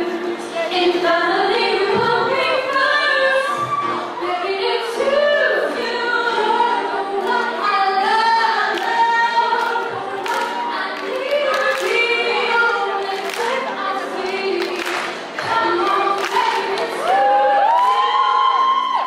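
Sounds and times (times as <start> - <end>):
girls singing in harmony: 0.0 - 18.9.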